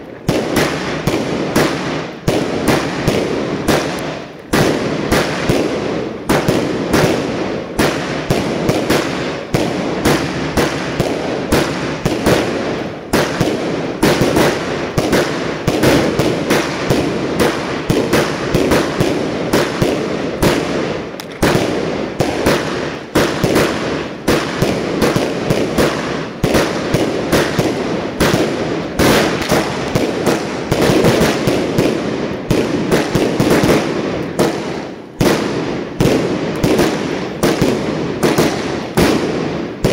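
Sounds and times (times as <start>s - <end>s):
firework crackle: 0.0s - 39.9s
firework shells bursting: 0.0s - 39.9s.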